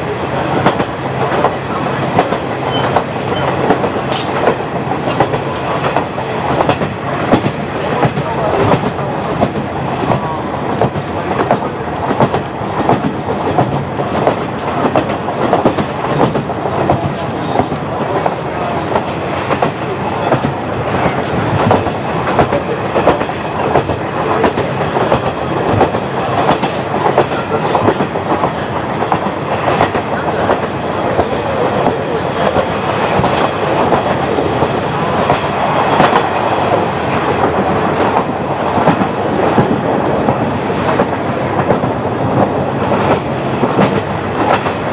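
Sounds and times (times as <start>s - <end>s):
diesel railcar running: 0.0s - 44.9s.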